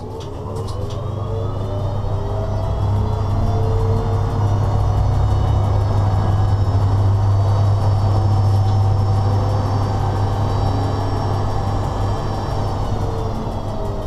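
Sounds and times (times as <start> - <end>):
locomotive cab running noise: 0.0 - 14.0.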